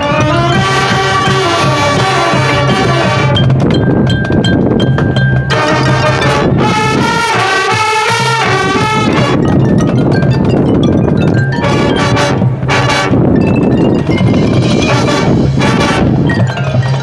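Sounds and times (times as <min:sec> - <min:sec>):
drums and percussion: 0:00.0 - 0:17.0
marching band playing: 0:00.0 - 0:17.0.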